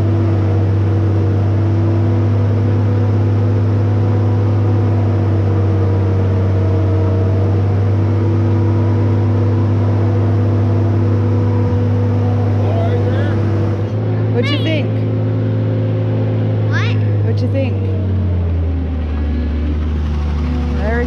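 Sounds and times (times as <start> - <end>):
engine deep hum: 0.0 - 21.0.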